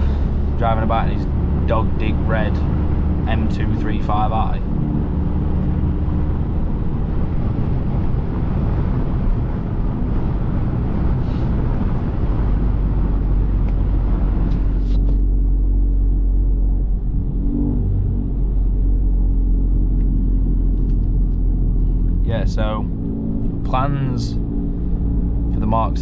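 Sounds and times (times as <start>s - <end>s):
car engine drone: 0.0s - 26.0s
deep low rumble: 0.0s - 26.0s
road noise: 0.0s - 26.0s.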